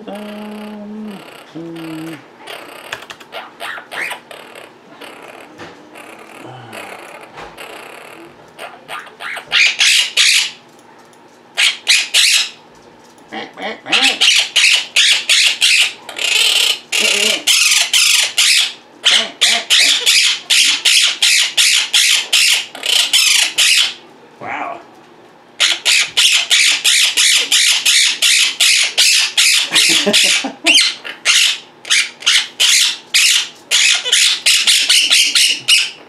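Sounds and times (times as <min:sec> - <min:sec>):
parrots squawking: 0:01.2 - 0:10.6, 0:11.6 - 0:12.6, 0:13.3 - 0:24.6, 0:25.6 - 0:36.0.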